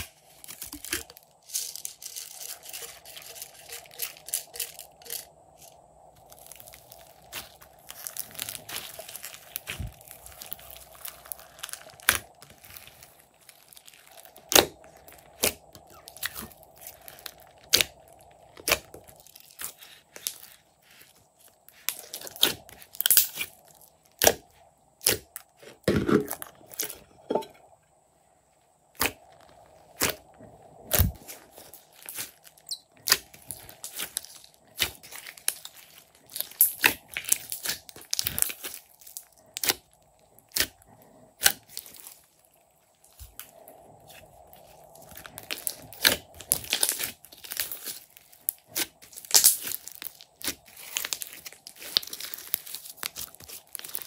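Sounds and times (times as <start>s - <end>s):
slime popping and crackling: 0.0s - 5.2s, 6.2s - 24.4s, 30.9s - 40.8s, 41.4s - 42.3s, 43.0s - 54.0s.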